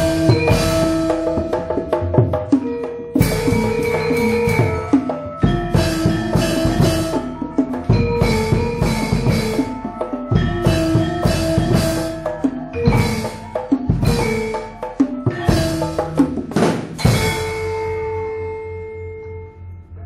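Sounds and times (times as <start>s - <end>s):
hand-drum strokes: 0.0s - 18.5s
gamelan music: 0.0s - 20.0s
metallophone notes ringing: 0.0s - 20.0s.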